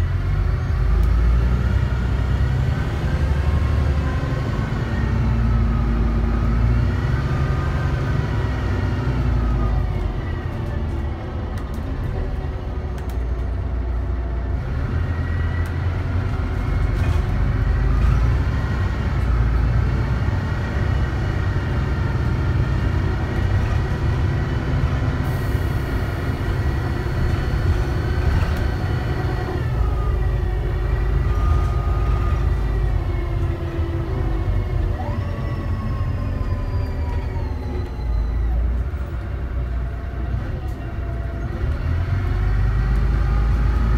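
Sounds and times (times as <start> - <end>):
bus diesel engine rumble: 0.0 - 43.9.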